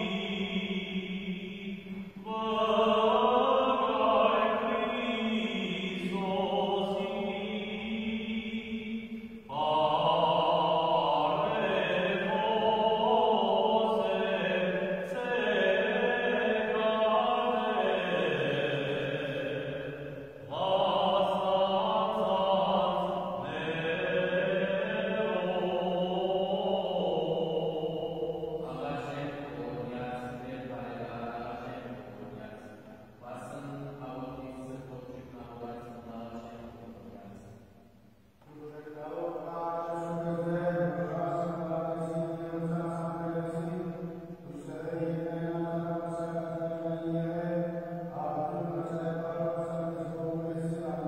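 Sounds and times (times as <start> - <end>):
man chanting hymns: 0.0 - 37.7, 38.3 - 51.0.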